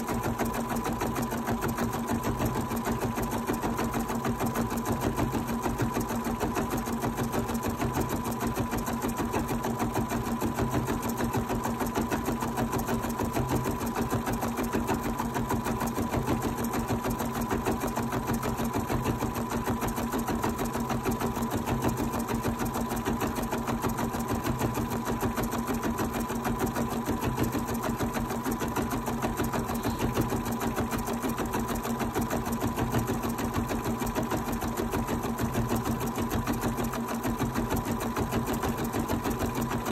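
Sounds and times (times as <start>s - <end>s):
sewing machine motor hum: 0.0s - 39.9s
sewing machine needle strokes: 0.0s - 39.9s.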